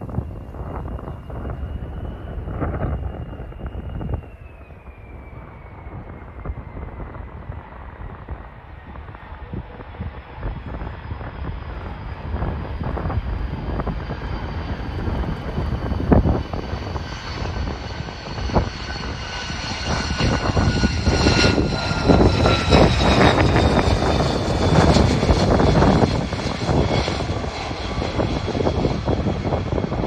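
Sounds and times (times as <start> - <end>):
jet engine rumble and whine: 0.0 - 30.0.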